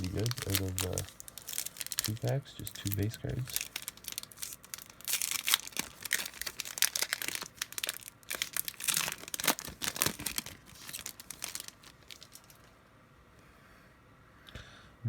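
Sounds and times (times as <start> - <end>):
foil wrapper tearing and crinkling: 0.0 - 12.7.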